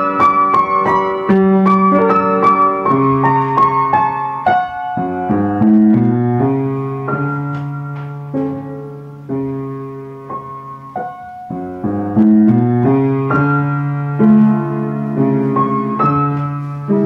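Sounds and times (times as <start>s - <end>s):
upright piano chords: 0.0s - 17.0s.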